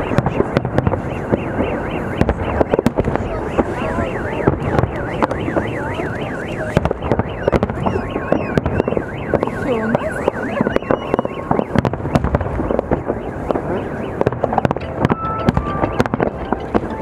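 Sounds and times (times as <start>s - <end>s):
firework bangs and crackling bursts: 0.0s - 17.0s
high siren-like wail: 0.0s - 17.0s.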